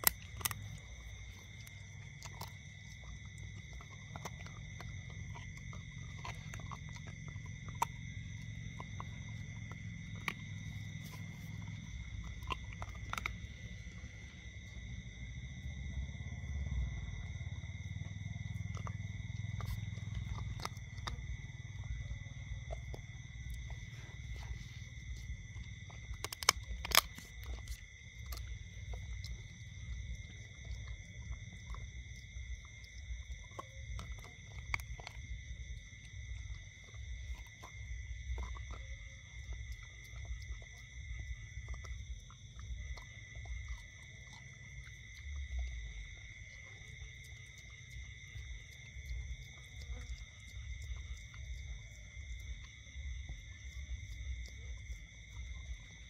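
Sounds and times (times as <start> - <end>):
dog gnawing a bone: 0.0 - 56.0.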